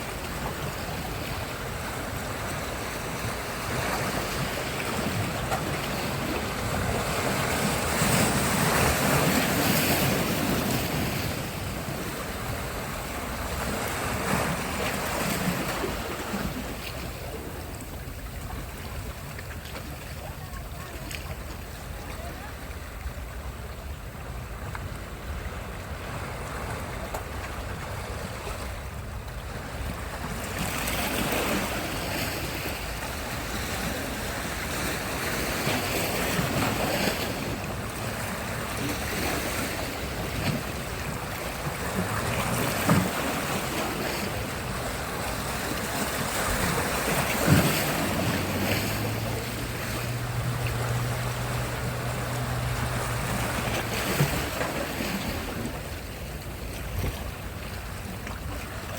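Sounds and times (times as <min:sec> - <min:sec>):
waves washing onto shore: 0:00.0 - 0:58.9.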